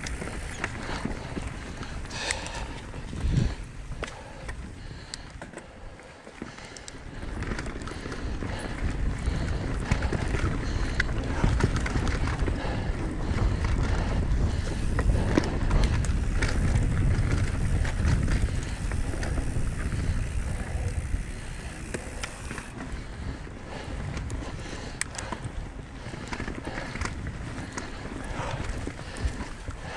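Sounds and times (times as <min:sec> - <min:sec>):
wind buffeting microphone: 0:00.0 - 0:05.8, 0:06.4 - 0:29.9
bike clicks and rattles: 0:00.0 - 0:29.9
bike tyres rolling on dirt: 0:00.0 - 0:29.9.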